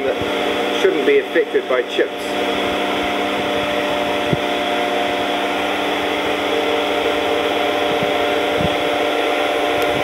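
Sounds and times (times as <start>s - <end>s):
milling machine hum: 0.0s - 10.0s.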